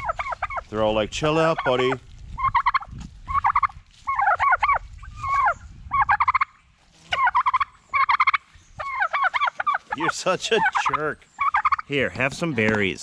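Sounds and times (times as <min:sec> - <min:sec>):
turkeys gobbling: 0:00.0 - 0:13.0.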